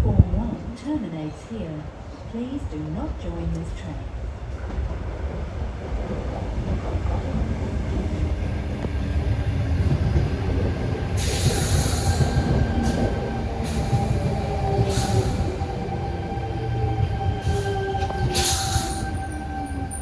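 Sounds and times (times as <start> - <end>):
train wheels rumbling on rail: 0.0 - 20.0
train whine: 2.9 - 20.0.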